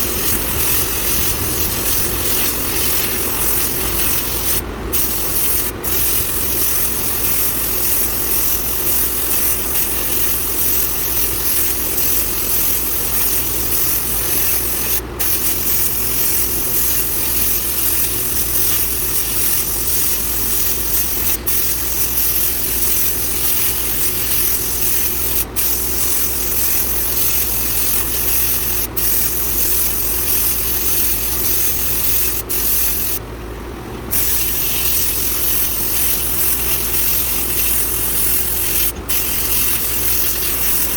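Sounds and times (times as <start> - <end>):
abrasive blast cabinet hissing: 0.0 - 33.2, 34.1 - 40.9.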